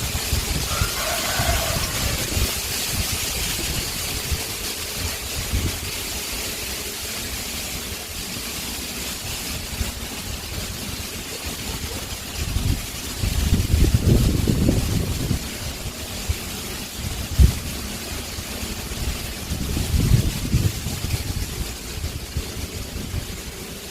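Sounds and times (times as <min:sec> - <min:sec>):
wind blowing across microphone: 0:00.0 - 0:06.8, 0:09.3 - 0:23.9.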